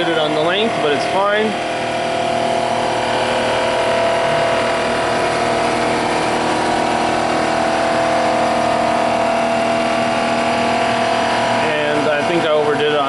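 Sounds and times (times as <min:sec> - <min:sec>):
surfacing machine milling metal: 0:00.0 - 0:13.0.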